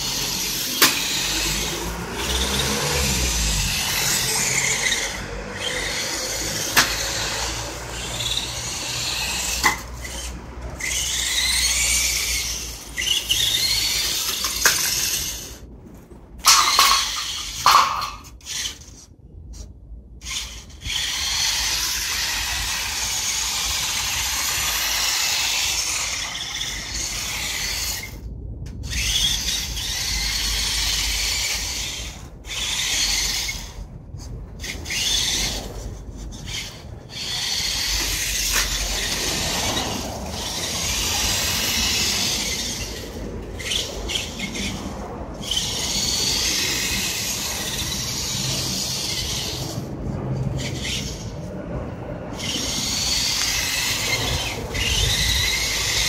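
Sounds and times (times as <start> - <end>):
toy truck motor whining: 0.0 - 19.1, 20.2 - 56.0.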